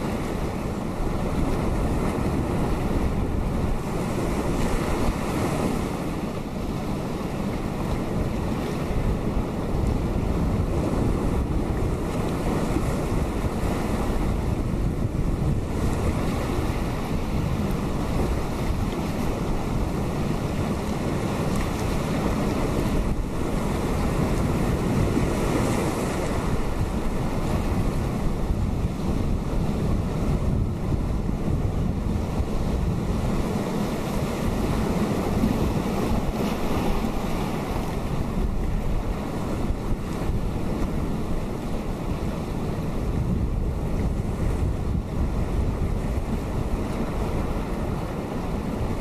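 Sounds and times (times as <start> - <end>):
surf breaking on rocky shore: 0.0 - 49.0.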